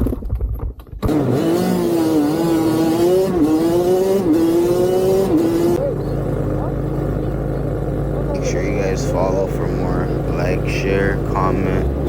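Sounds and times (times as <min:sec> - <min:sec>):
motorcycle engine running: 0:01.1 - 0:12.0.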